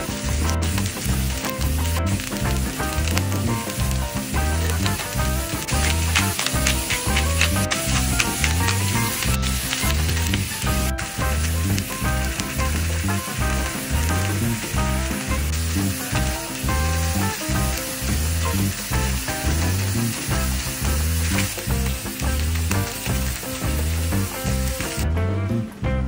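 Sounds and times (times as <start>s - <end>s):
food sizzling in a pan: 0.0s - 25.1s
background music with bass: 0.0s - 26.0s.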